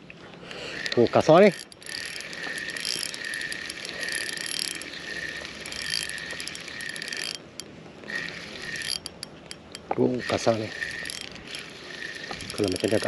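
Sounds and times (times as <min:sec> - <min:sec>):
fishing reel gears whirring: 0:00.4 - 0:13.0
fishing reel clicks: 0:00.5 - 0:13.0.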